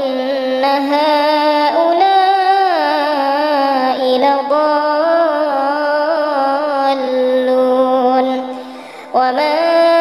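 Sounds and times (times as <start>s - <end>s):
person reciting melodically: 0.0s - 10.0s.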